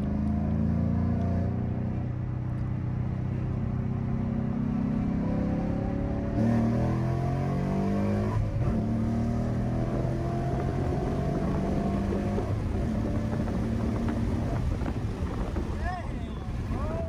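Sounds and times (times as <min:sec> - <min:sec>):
car engine accelerating hard: 0:00.0 - 0:15.9.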